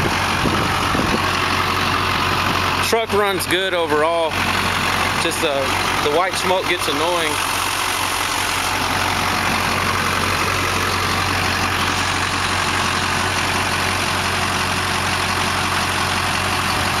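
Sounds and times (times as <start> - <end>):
diesel engine idling with clatter: 0.0 - 17.0.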